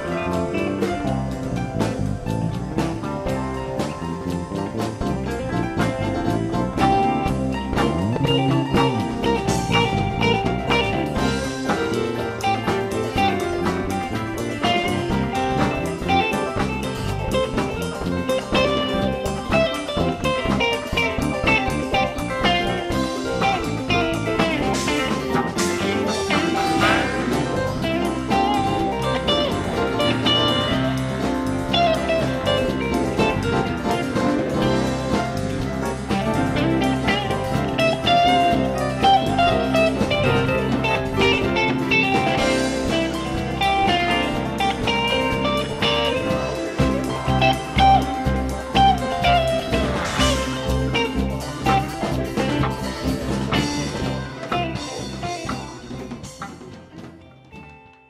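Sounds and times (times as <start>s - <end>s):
bass: 0.0s - 58.0s
drums: 0.0s - 58.0s
electric guitar lead: 0.0s - 58.0s
keyboard: 0.0s - 58.0s
live band playing: 0.0s - 58.0s.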